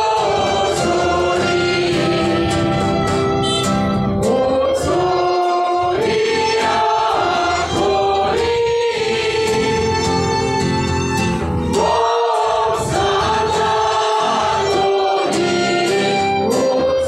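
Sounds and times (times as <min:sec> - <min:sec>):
congregation singing a hymn: 0:00.0 - 0:10.7, 0:11.6 - 0:17.0.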